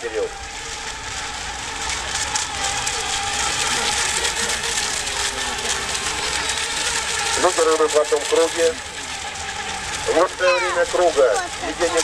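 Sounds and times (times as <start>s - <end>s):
high motor whine: 0.0s - 12.0s.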